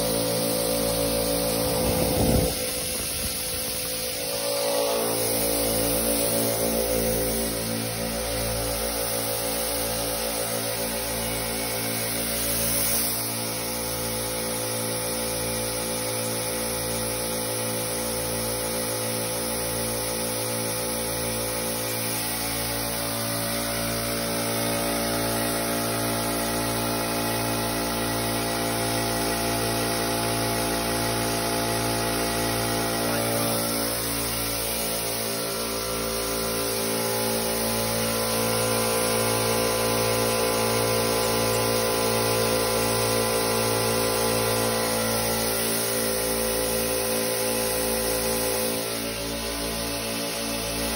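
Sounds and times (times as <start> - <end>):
air compressors humming: 0.0 - 15.9, 19.3 - 50.9.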